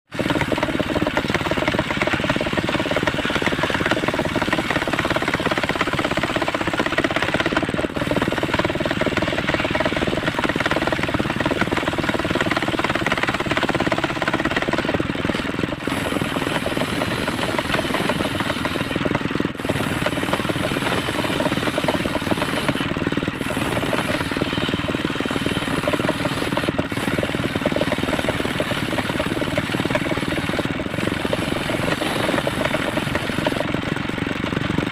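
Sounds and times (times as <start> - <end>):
circular saw cutting wood: 0.1 - 33.9.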